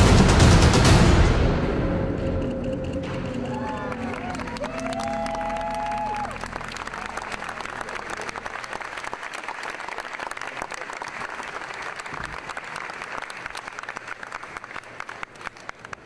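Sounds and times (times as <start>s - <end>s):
crowd applauding: 3.0s - 16.0s.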